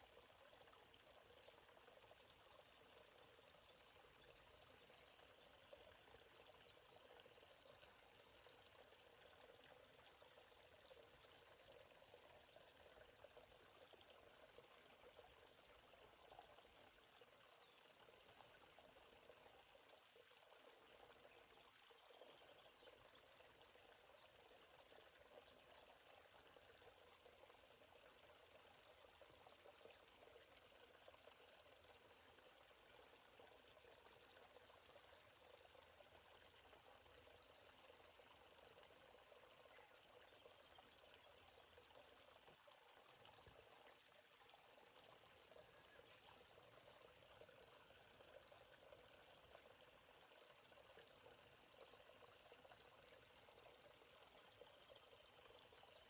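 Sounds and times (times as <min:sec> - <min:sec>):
babbling stream: 0:00.0 - 0:56.0
high-pitched insect chorus: 0:00.0 - 0:56.0.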